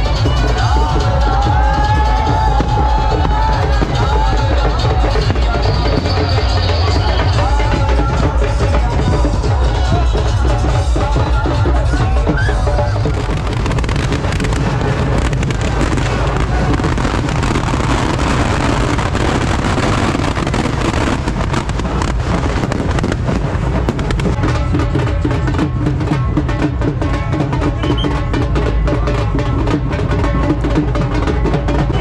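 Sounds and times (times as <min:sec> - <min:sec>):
drum-heavy festival music: 0:00.0 - 0:32.0
firecrackers crackling and bursting: 0:00.0 - 0:32.0.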